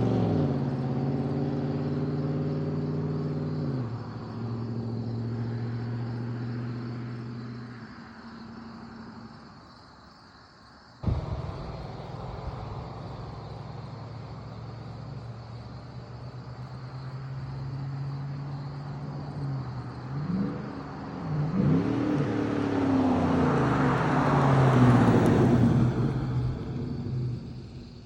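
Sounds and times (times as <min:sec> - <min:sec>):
truck engine revving: 0:00.0 - 0:07.4, 0:11.0 - 0:28.0.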